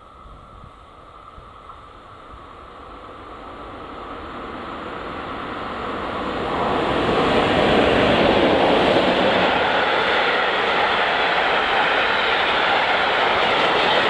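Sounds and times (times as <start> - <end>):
freight train passing: 0.0 - 14.0.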